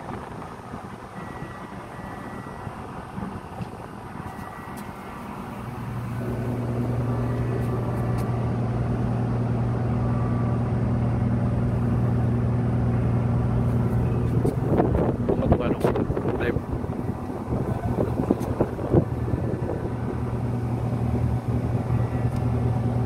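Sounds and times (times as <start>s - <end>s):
ship machinery hum: 0.0s - 23.0s.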